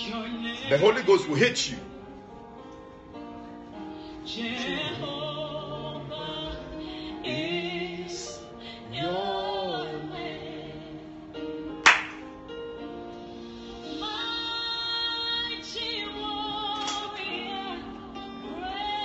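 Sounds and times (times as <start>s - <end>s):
worship song accompaniment: 0.0s - 19.0s.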